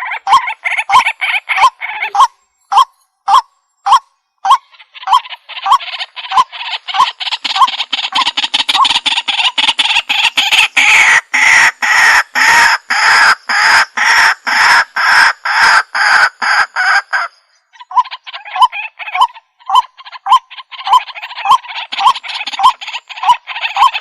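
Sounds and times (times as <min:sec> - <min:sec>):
waterhen harsh calls: 0:00.0 - 0:24.0.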